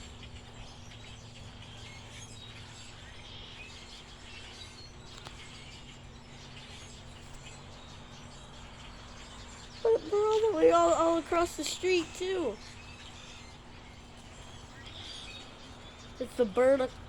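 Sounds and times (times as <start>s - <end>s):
flock of birds chirping: 0.0s - 17.0s
steady low hum: 0.0s - 17.0s.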